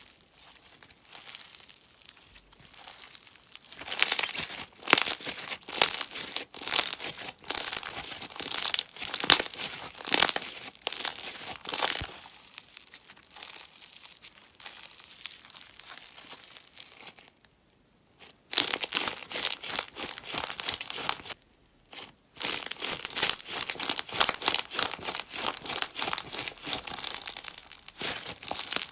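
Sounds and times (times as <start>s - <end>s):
slime crackling and popping: 0.0s - 17.4s, 18.2s - 28.9s.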